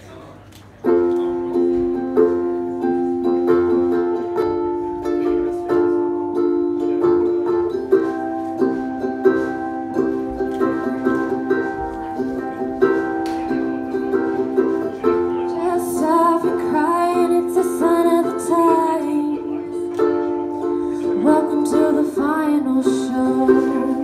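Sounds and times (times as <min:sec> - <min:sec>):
ukulele strumming chords: 0:00.8 - 0:24.0.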